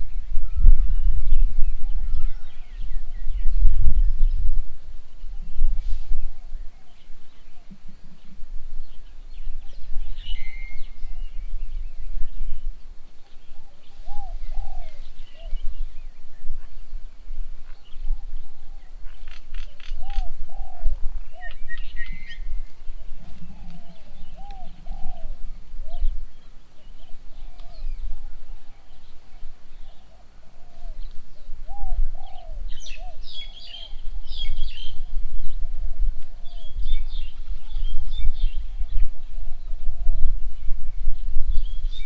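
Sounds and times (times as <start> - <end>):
doves cooing: 0.0 - 41.0
small birds chirping: 0.4 - 42.0.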